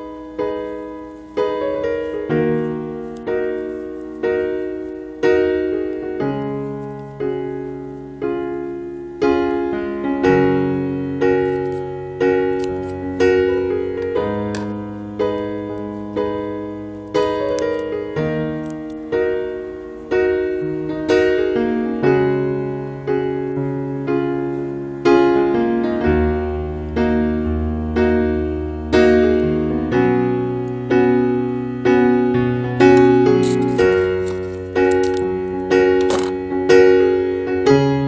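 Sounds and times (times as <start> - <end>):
gentle keyboard melody: 0.0 - 38.0.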